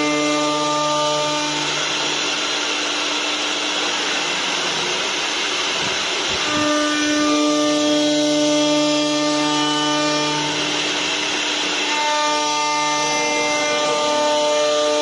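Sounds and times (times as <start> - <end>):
cutter hissing through wood: 0.0 - 15.0
lathe motor whine: 0.0 - 15.0.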